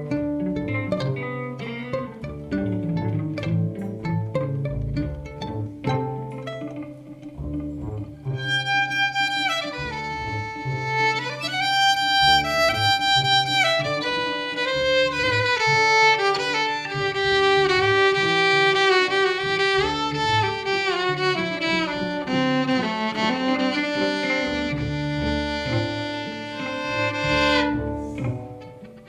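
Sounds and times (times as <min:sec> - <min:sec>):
bowed violin melody: 0:00.0 - 0:29.0
guitar: 0:00.0 - 0:29.0
walking double bass: 0:00.0 - 0:29.0.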